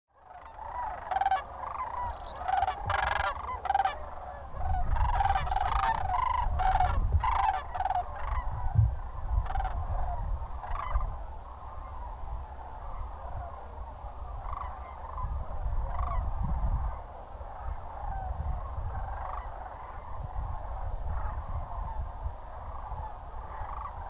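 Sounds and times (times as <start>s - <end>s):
cranes calling: 0.2s - 24.0s.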